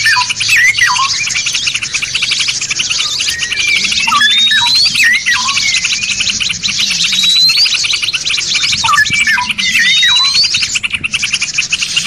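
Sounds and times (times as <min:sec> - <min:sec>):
bird whistle rising: 0:00.0 - 0:12.0
songbirds chattering trill: 0:00.0 - 0:12.0.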